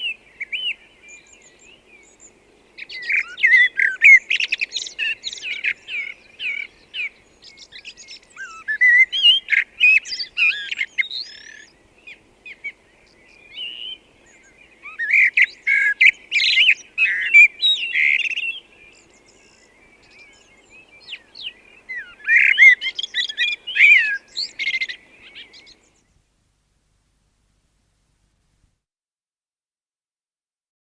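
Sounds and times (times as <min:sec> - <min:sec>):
blackbird singing: 0:00.0 - 0:26.1.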